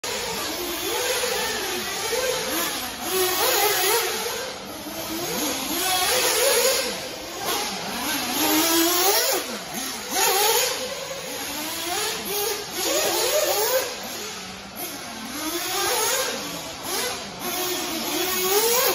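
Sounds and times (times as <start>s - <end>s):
rc buggy motor revving: 0.0s - 18.9s.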